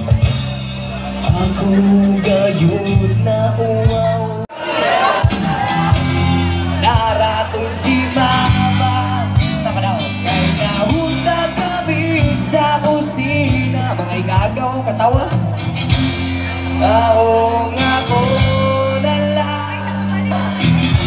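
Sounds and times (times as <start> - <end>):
live band playing: 0.0 - 21.0
person singing: 0.0 - 21.0
steady bass: 0.0 - 21.0.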